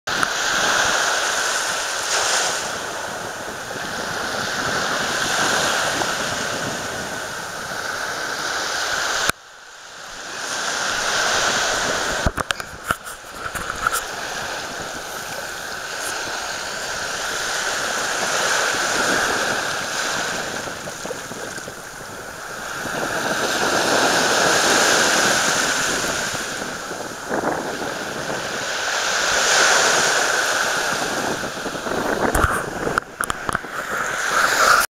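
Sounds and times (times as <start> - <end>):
surf washing on a beach: 0.1 - 34.9.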